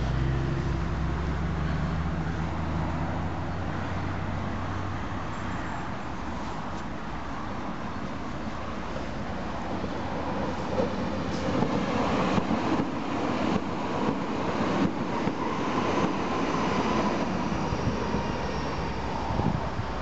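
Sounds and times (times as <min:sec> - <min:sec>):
light-rail train humming: 0:00.0 - 0:20.0.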